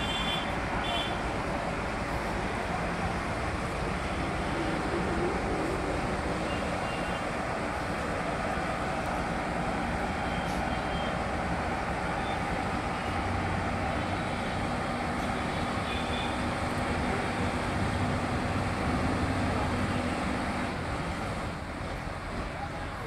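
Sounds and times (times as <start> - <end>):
forklift diesel engine running: 0.0 - 23.0.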